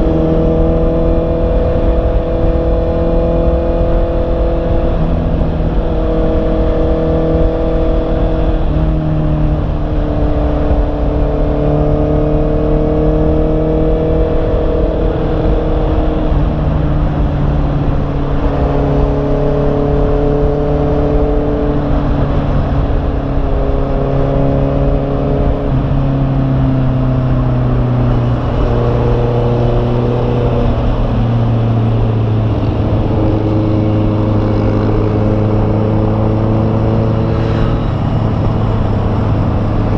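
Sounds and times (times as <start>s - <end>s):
motorcycle engine changing gears: 0.0s - 39.9s
wind noise: 0.0s - 39.9s.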